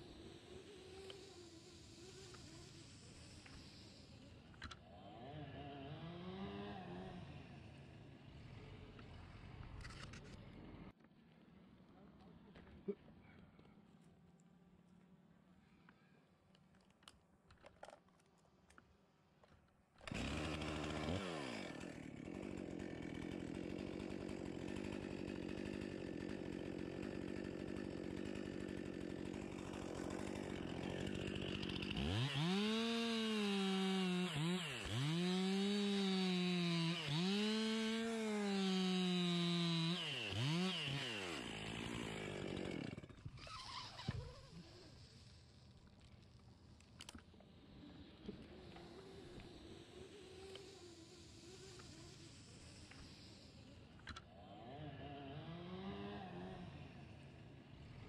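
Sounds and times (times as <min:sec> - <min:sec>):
chainsaw idling and revving: 0:00.0 - 0:11.0, 0:20.0 - 0:58.0.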